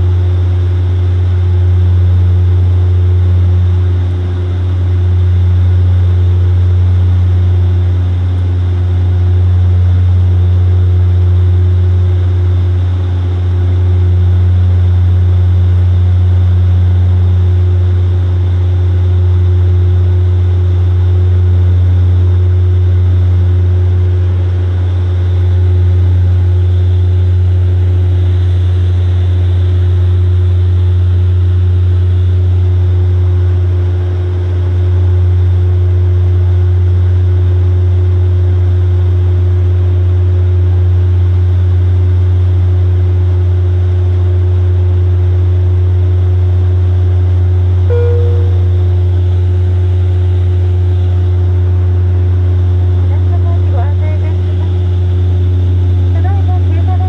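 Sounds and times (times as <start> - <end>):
turboprop engines droning in cabin: 0.0 - 57.0.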